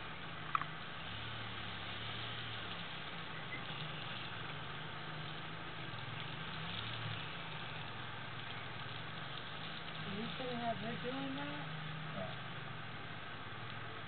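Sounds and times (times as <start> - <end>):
distant quad bike engine: 0.0 - 14.0
steady hiss: 0.0 - 14.0.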